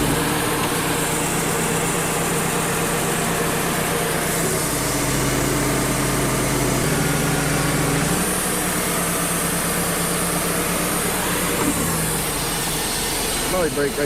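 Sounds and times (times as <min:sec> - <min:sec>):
portable sawmill sawing log: 0:00.0 - 0:14.0.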